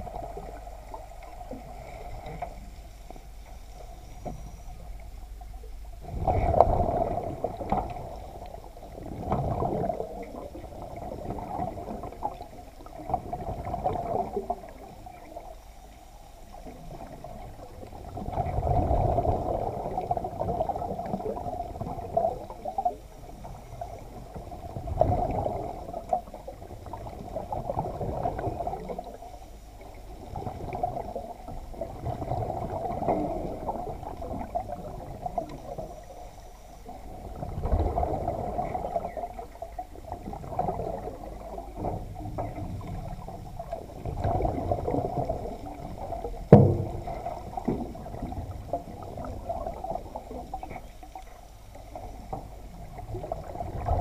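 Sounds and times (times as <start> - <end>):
underwater bubbling: 0.0 - 54.0
underwater water surges: 0.0 - 54.0.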